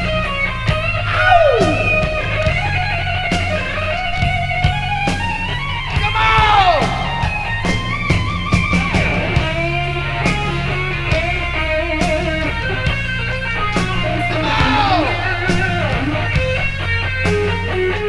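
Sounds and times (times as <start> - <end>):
bass: 0.0 - 18.0
drums and cymbal hits: 0.0 - 18.0
electric guitar lead with bends: 0.0 - 18.0.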